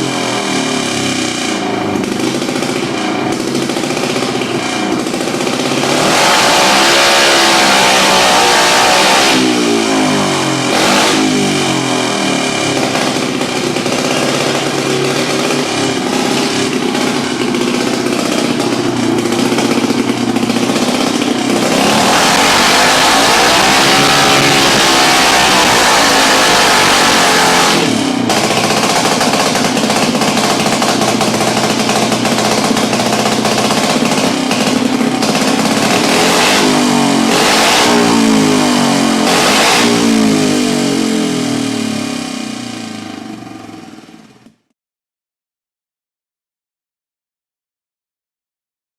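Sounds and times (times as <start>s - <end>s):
single-cylinder engine running: 0.0s - 44.6s.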